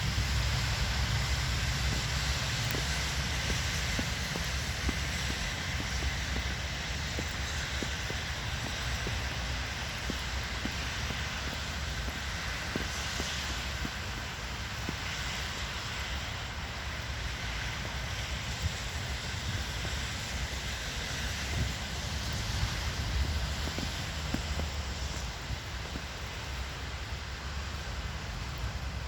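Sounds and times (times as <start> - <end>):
blizzard wind buffeting microphone: 0.0 - 29.0.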